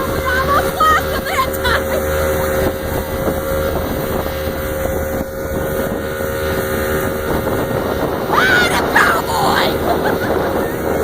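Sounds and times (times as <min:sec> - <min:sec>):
watercraft engine running: 0:00.0 - 0:11.0
wind on microphone: 0:00.0 - 0:11.0.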